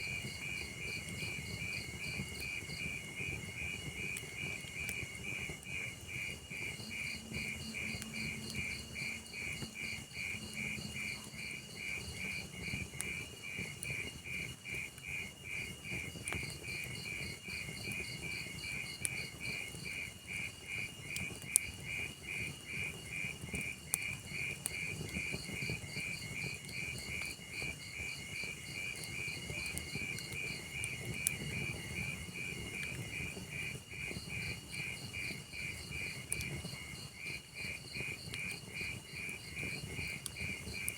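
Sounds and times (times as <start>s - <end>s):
crickets chirping: 0.0s - 40.9s
fire popping: 0.0s - 40.9s
log fire crackling: 0.0s - 40.9s.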